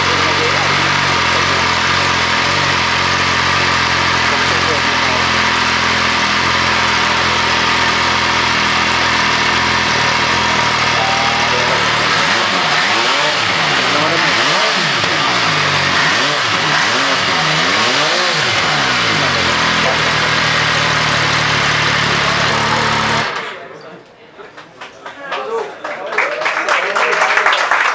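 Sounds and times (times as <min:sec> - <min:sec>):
motorcycle engine idling and revving: 0:00.0 - 0:23.7.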